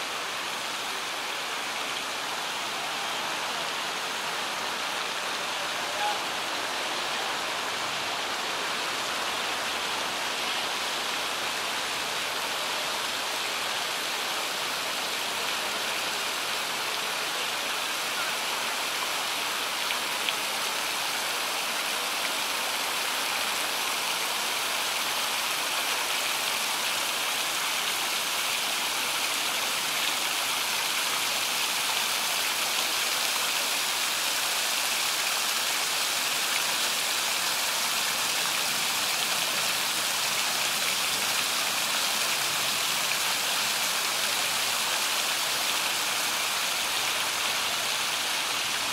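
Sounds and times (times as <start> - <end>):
fountain water splashing: 0.0 - 48.9.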